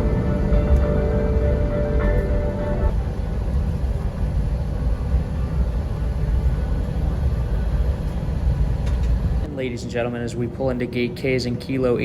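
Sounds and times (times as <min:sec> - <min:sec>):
airliner cabin low rumble: 0:00.0 - 0:12.0.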